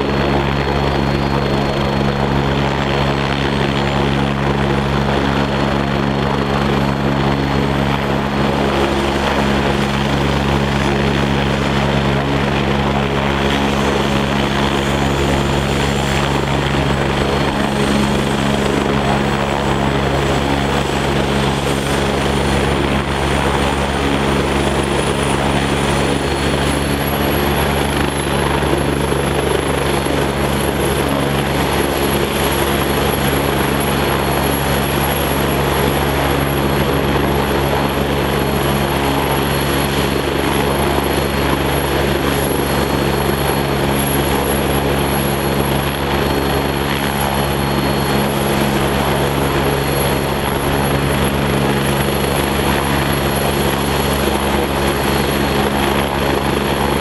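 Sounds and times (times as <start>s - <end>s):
helicopter rotor drone: 0.0s - 57.0s
helicopter turbine whine: 0.0s - 57.0s.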